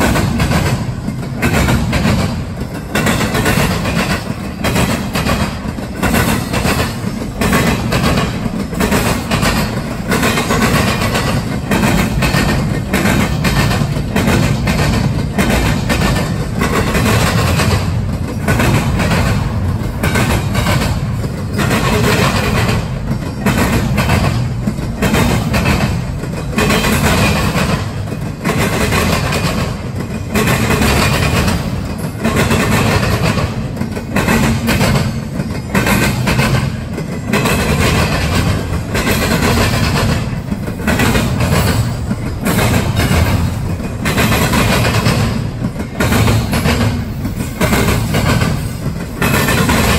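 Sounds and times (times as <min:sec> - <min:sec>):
steel wheels rumbling on rail: 0:00.0 - 0:49.9
wheels clacking over rail joints: 0:00.0 - 0:49.9.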